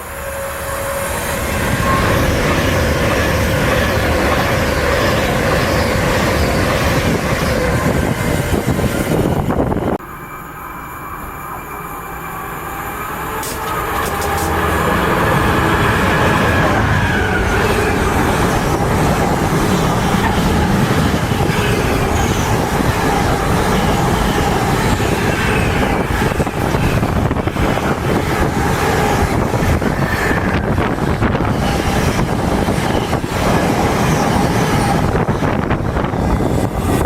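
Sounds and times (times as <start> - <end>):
train wheels rushing on rails: 0.0 - 37.0.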